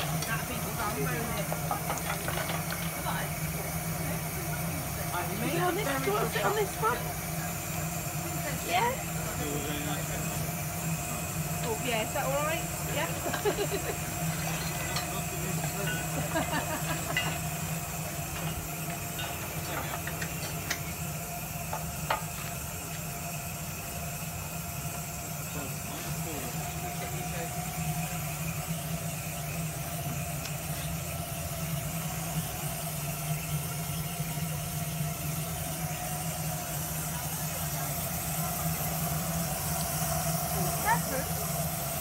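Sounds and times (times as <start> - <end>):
small engine idling: 0.0 - 42.0.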